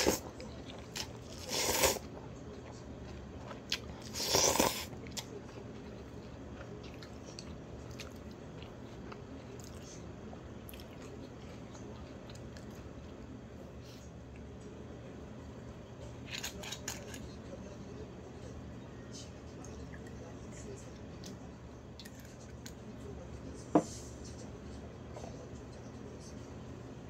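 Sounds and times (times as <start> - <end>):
faint chewing: 0.0 - 14.7, 16.0 - 26.5.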